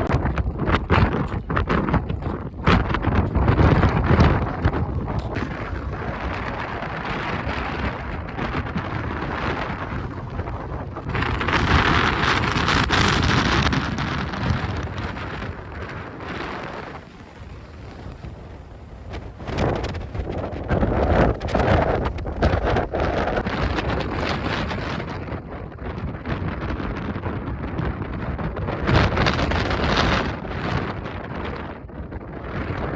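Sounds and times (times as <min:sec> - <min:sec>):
strong wind buffeting microphone: 0:00.0 - 0:32.9.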